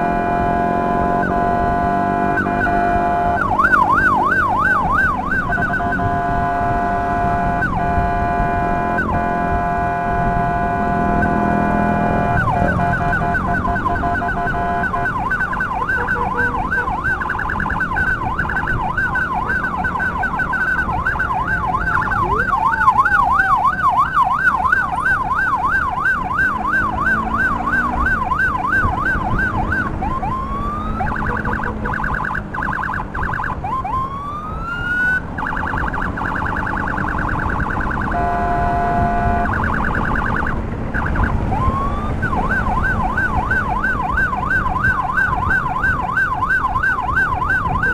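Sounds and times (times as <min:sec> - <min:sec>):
electronic siren warbling: 0:00.0 - 0:47.9
wind and road noise: 0:00.0 - 0:47.9.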